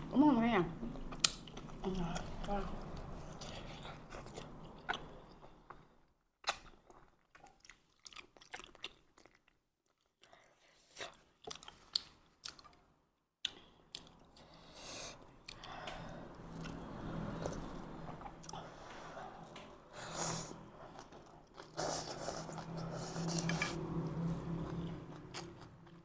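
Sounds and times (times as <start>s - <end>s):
person chewing and eating: 0.9s - 26.0s.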